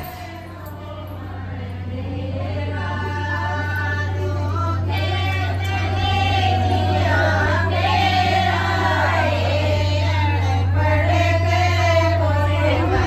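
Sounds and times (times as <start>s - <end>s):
women singing folk song: 0.0s - 13.0s.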